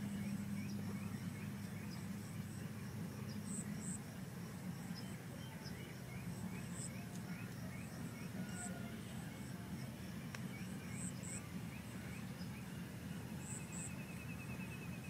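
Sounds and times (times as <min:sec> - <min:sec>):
birds chirping: 0:00.0 - 0:15.0
insects chirping: 0:00.0 - 0:15.0
steady low rumble: 0:00.0 - 0:15.0.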